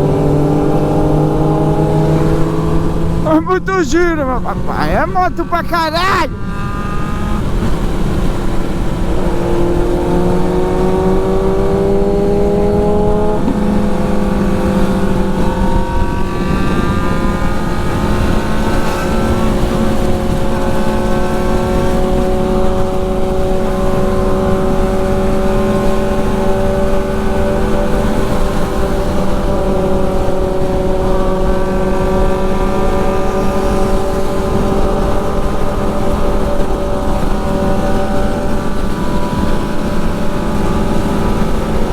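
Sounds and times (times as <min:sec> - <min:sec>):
motorcycle engine running: 0:06.3 - 0:41.9.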